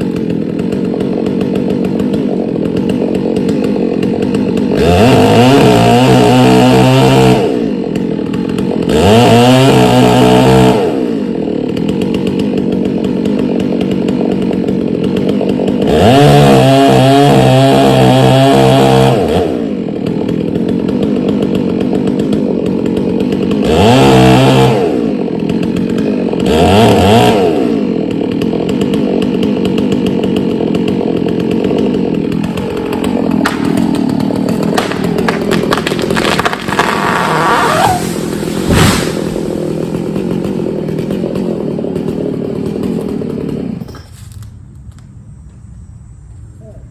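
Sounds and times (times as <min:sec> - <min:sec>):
chainsaw revving and idling: 0:00.0 - 0:44.5.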